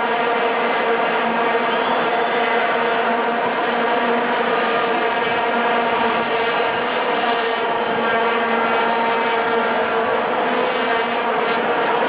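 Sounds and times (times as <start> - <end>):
fixed-pitch buzzing drone: 0.0 - 12.0.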